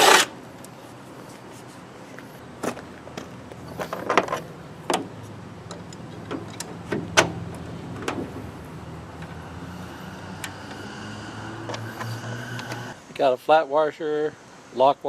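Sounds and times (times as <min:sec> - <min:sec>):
steady low hum: 0:00.4 - 0:13.2.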